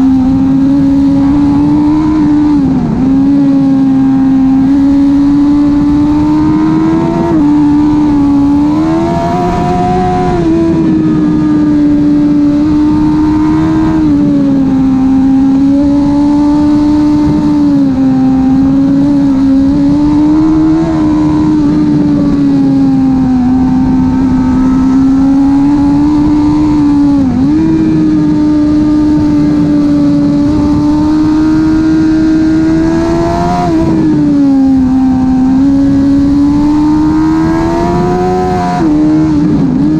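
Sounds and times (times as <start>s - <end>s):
motorcycle engine revving high: 0.0s - 39.9s
rushing wind noise: 0.0s - 39.9s.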